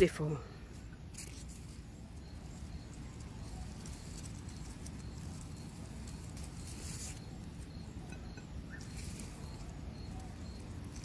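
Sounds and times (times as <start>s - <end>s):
foliage rustling: 0.0s - 8.0s, 8.6s - 11.0s.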